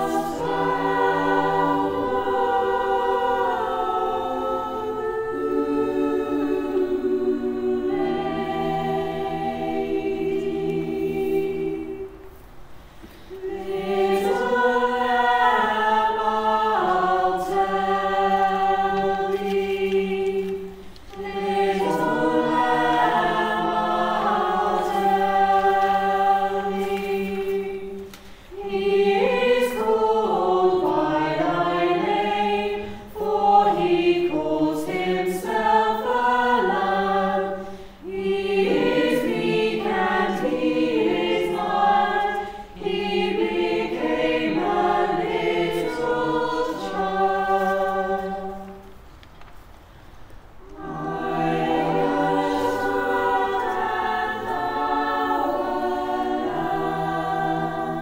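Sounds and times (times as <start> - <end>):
choir singing: 0.0 - 49.1, 50.4 - 58.0.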